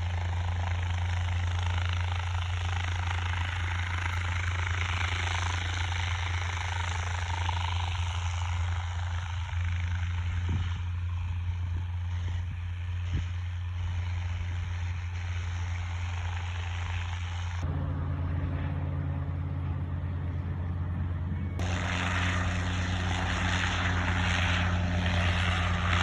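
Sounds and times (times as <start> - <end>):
propeller aircraft engine drone: 0.0 - 26.0.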